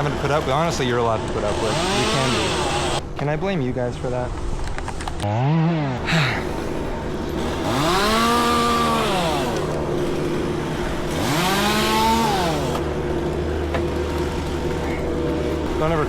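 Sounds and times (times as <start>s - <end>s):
chainsaw revving and idling: 0.0s - 3.0s, 5.2s - 16.0s.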